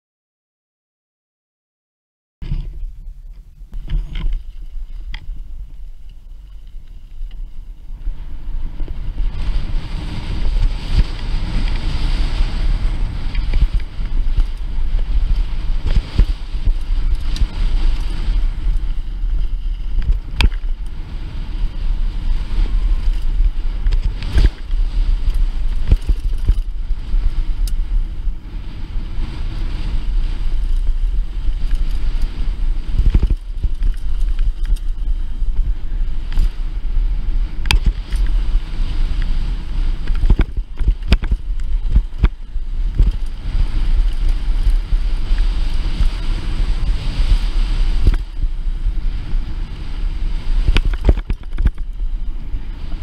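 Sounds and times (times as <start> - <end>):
wind buffeting microphone: 2.4 - 53.0
tyres rolling on loose gravel: 3.8 - 53.0.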